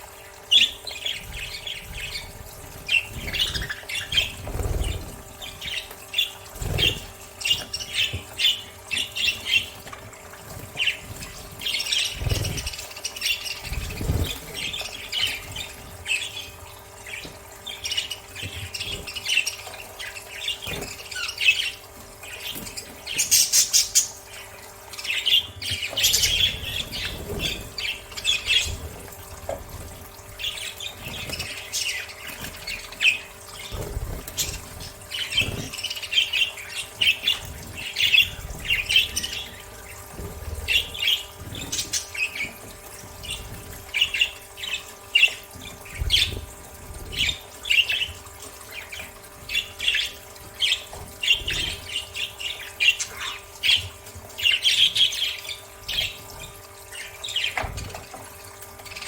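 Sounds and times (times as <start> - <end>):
budgerigars chattering and squawking: 0.2 - 58.0.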